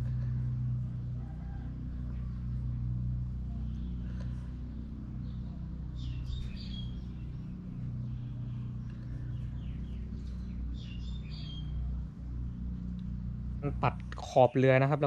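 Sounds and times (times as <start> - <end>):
steady low hum: 0.0 - 15.0
small birds chirping: 2.1 - 14.8.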